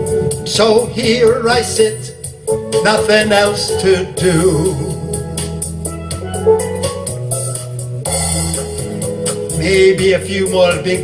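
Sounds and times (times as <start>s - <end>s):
calypso steelpan music: 0.0s - 11.0s.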